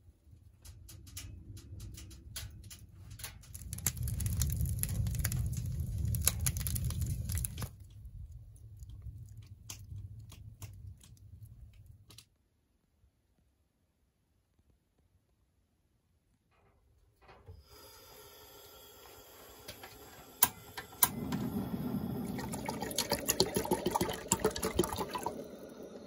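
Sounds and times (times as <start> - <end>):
wood fire crackling: 0.1 - 12.4, 17.2 - 26.0.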